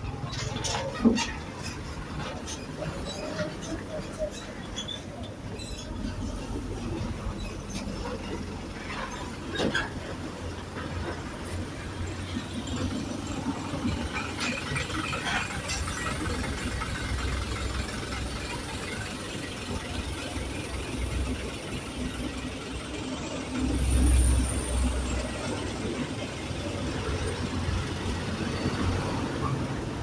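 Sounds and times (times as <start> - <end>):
bus engine rumbling: 0.0 - 30.0.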